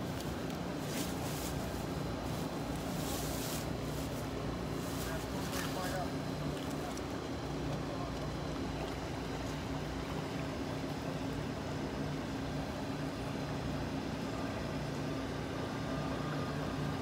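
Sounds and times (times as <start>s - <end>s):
low engine-like hum: 0.0s - 17.0s
outdoor noise: 0.0s - 17.0s.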